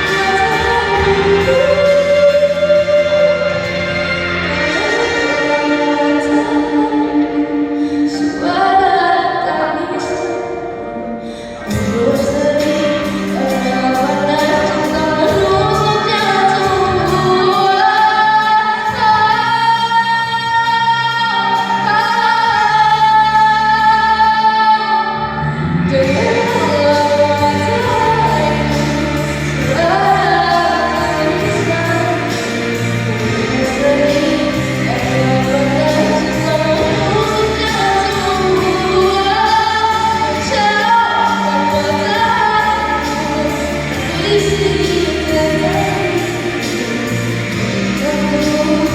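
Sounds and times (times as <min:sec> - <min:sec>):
instrumental backing: 0:00.0 - 0:48.9
woman singing slow song: 0:00.0 - 0:48.9.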